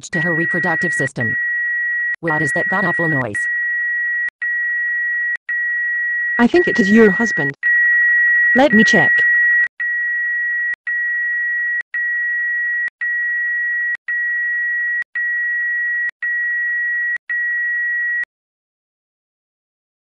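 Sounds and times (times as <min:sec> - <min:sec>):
medical machine alarm tone: 0:00.0 - 0:18.2.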